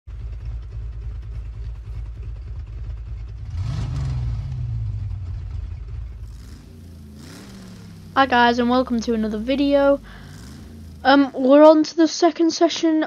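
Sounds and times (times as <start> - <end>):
car engine idling and revving: 0.1 - 11.9.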